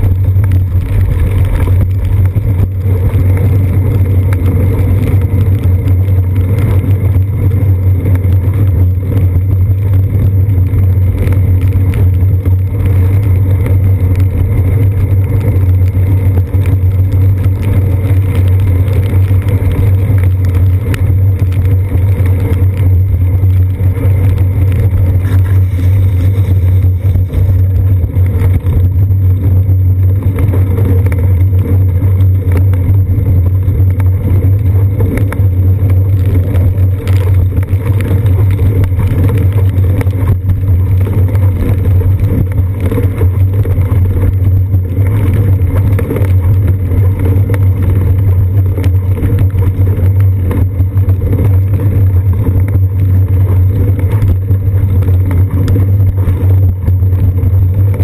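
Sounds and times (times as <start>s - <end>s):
bicycle riding on wet pavement: 0.0s - 58.0s
wind noise: 0.0s - 58.0s.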